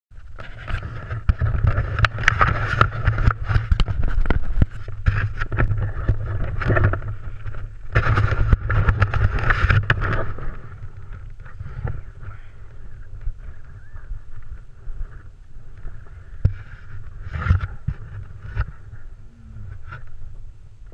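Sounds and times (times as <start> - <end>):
sharp clicks and rustles: 0.2 - 20.9
wind buffeting microphone: 0.2 - 20.9.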